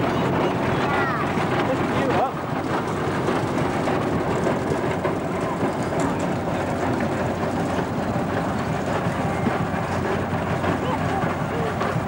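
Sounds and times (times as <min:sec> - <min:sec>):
train wheels rattling on track: 0:00.0 - 0:12.0.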